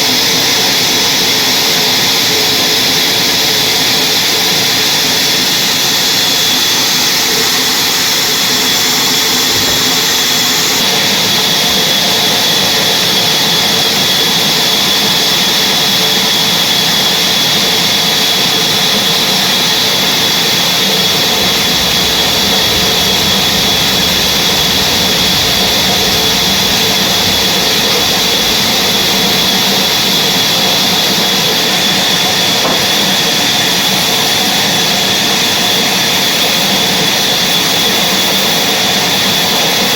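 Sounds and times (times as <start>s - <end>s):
sawmill saw cutting log: 0.1s - 39.8s.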